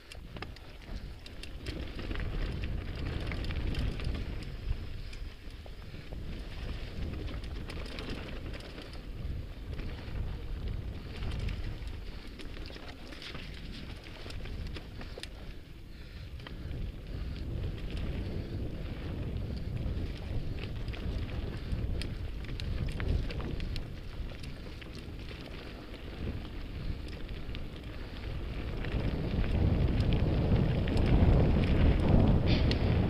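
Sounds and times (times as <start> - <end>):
bike clicks and rattles: 0.0 - 33.0
tyres on loose gravel: 0.0 - 33.0
wind buffeting microphone: 0.0 - 33.0.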